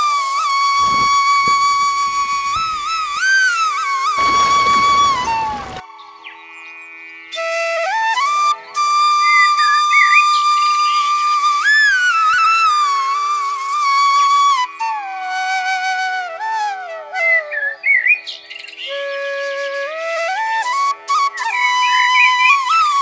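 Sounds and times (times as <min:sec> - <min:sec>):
sliding flute melody: 0:00.0 - 0:05.9, 0:07.3 - 0:23.0.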